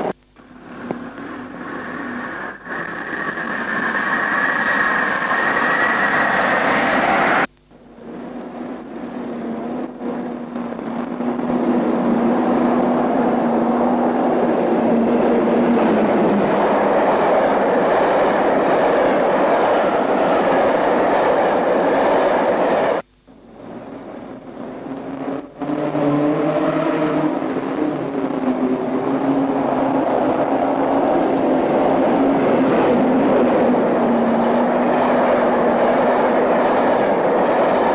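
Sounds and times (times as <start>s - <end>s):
diesel locomotive engine: 0.0s - 37.9s.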